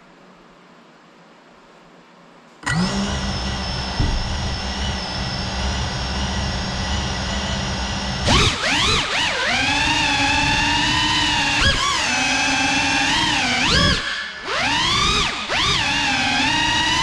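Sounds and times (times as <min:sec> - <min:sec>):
drone propellers buzzing: 0:02.6 - 0:17.0.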